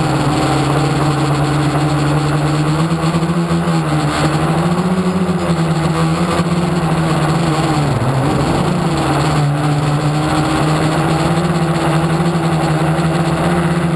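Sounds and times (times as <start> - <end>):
model motor humming: 0.0 - 13.9.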